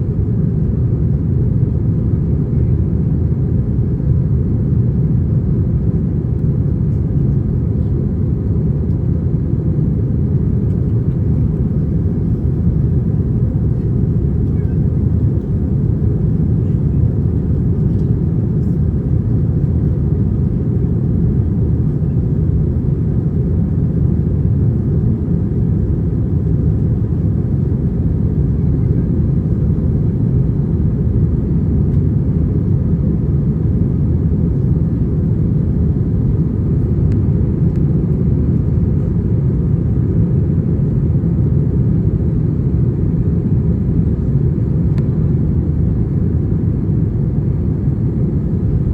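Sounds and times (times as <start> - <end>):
jet engine drone in cabin: 0.0 - 48.9.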